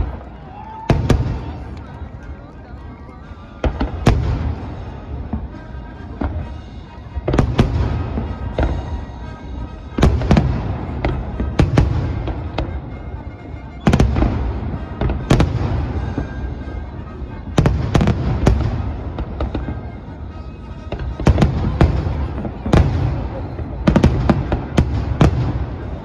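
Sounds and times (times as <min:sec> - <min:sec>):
fireworks bursting with bangs: 0:00.0 - 0:26.0.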